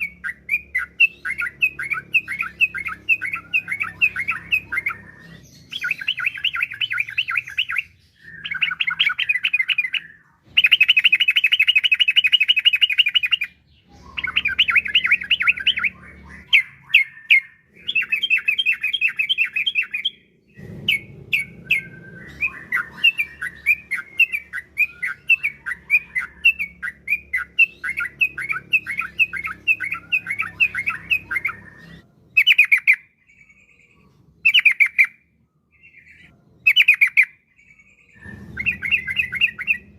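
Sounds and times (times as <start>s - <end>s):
bulbul singing trilled bursts: 0.0s - 35.2s.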